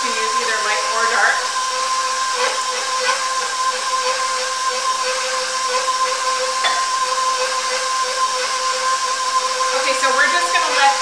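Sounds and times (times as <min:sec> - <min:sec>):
stand mixer running: 0:00.0 - 0:11.0.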